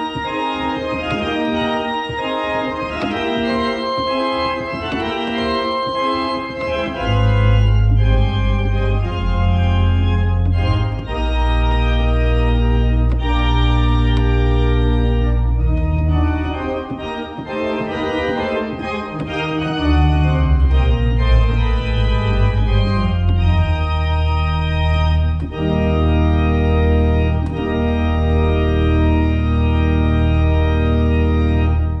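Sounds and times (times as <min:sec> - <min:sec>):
church organ playing chords: 0:00.0 - 0:32.0.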